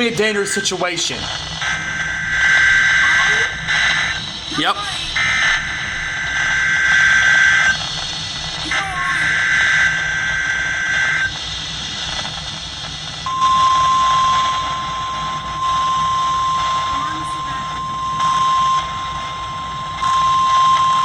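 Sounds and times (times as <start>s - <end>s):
steady high alarm tone: 0.0s - 12.2s, 13.2s - 21.0s
radio hiss: 0.0s - 21.0s.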